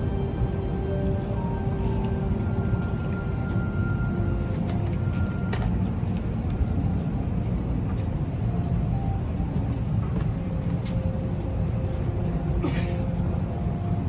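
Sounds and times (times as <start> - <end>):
airplane cabin low rumble: 0.0 - 14.0.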